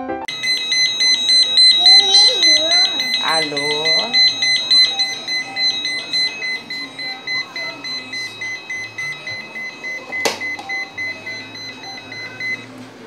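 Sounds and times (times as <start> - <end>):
electronic beeping tune: 0.3 - 12.7.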